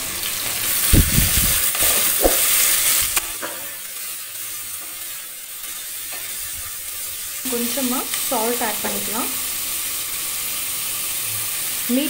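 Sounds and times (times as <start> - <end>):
onions sizzling in a pot: 0.0 - 12.0.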